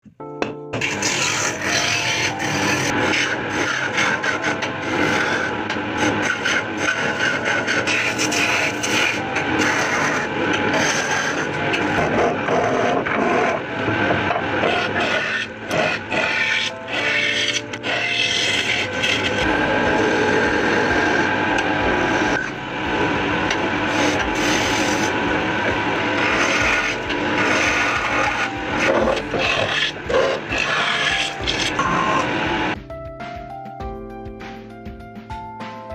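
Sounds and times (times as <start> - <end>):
tool scraping wood: 0.8 - 32.5.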